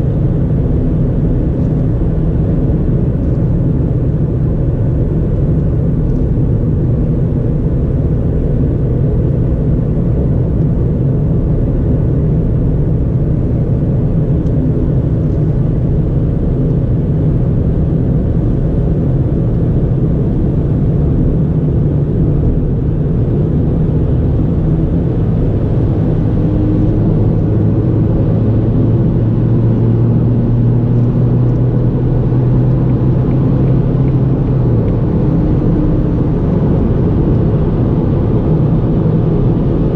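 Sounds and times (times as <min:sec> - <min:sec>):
car engine drone: 0:00.0 - 0:39.9
tyre road rumble: 0:00.0 - 0:39.9.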